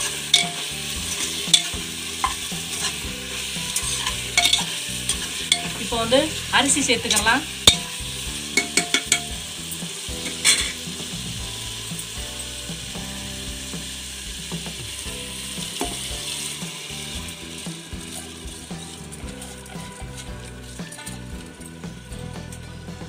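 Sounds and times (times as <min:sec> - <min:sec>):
food sizzling in a pot: 0:00.0 - 0:23.0
rice being poured: 0:00.0 - 0:23.0.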